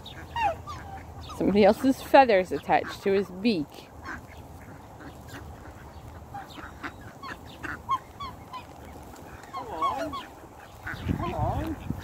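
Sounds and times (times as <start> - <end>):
swan calling: 0.0 - 12.0.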